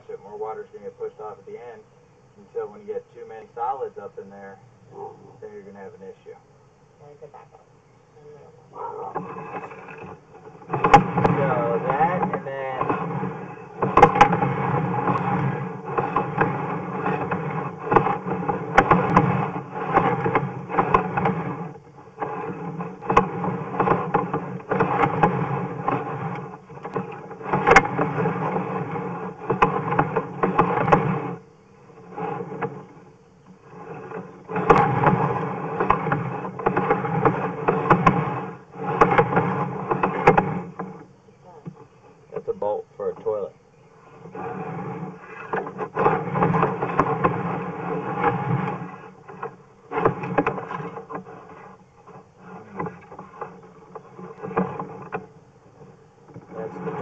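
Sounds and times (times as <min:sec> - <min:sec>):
camera cable scraping in pipe: 0:09.0 - 0:41.2, 0:42.4 - 0:57.0.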